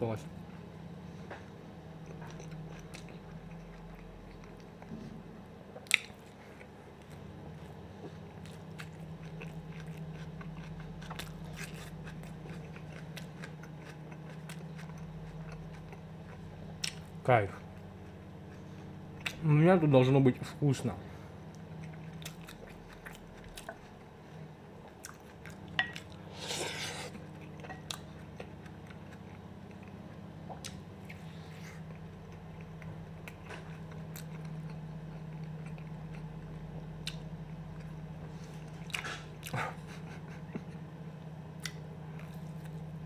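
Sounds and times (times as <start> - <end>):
steady low hum: 0.0 - 43.0
chewing and biting sausage: 1.9 - 4.9, 5.7 - 19.4, 21.4 - 40.8, 41.5 - 43.0.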